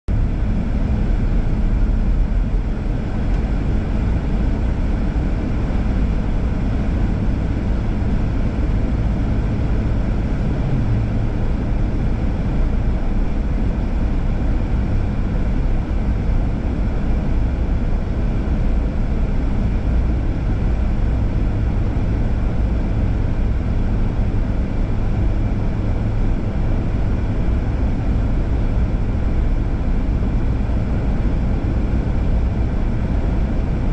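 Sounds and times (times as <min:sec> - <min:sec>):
car road noise: 0:00.1 - 0:33.9.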